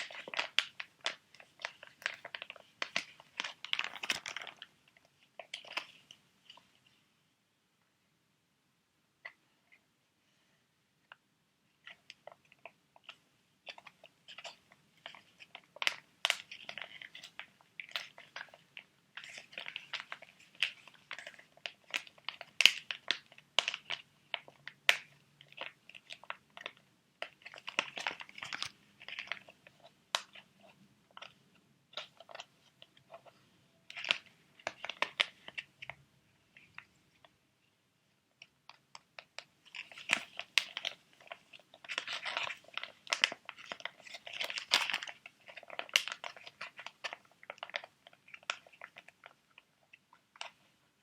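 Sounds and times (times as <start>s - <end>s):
plastic packets crinkling: 0.0s - 6.6s, 11.8s - 37.3s, 38.4s - 51.0s.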